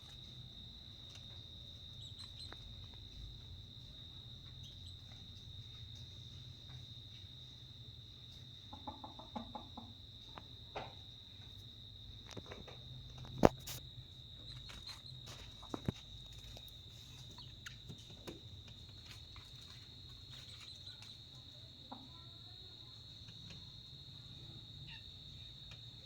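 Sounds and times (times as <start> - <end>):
insect chorus: 0.0 - 26.0.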